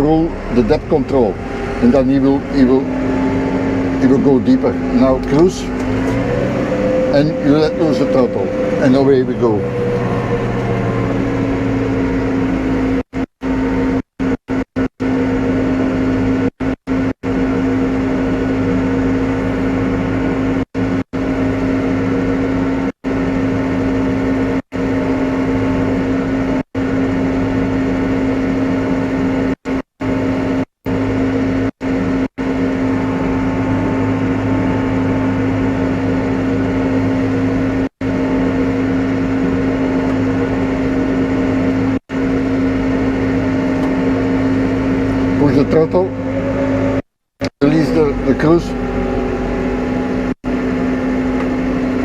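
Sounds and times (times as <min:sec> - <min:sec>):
tractor diesel engine under load: 0:00.0 - 0:52.0.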